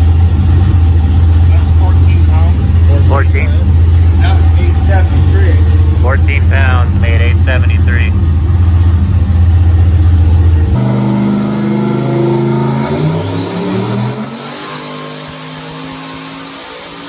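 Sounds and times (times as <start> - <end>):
engine running and revving: 0.0 - 17.0
turbo whine rising: 0.0 - 17.0.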